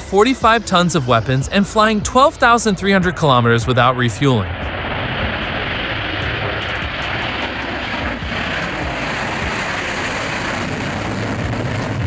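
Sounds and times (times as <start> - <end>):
jet engines roaring on takeoff: 0.0 - 12.0.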